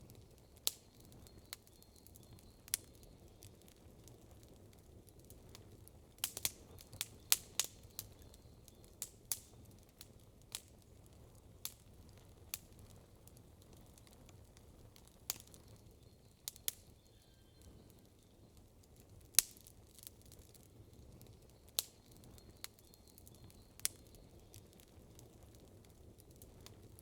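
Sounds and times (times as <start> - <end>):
campfire crackling and popping: 0.0 - 27.0
low steady hiss: 0.0 - 27.0.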